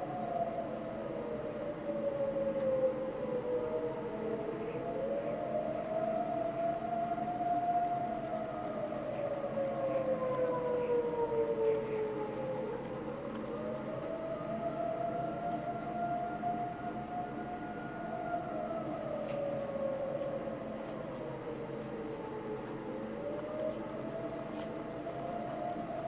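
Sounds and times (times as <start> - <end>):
wailing warning siren: 0.0 - 26.0.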